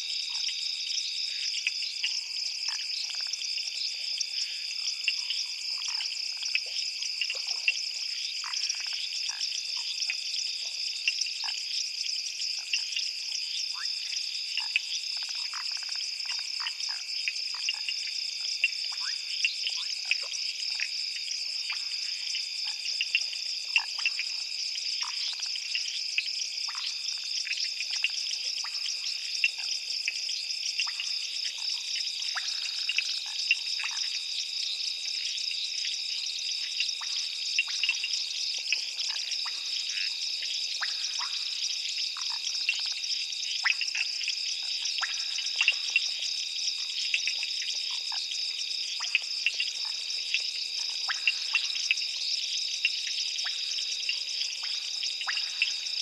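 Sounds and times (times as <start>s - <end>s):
frogs and insects trilling: 0.0s - 56.0s.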